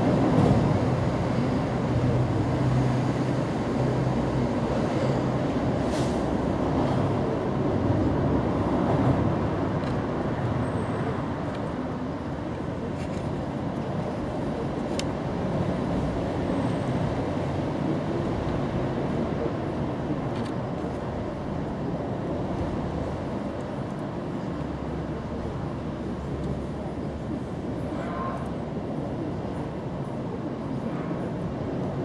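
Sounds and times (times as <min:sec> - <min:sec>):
low rumbling background noise: 0:00.0 - 0:32.0.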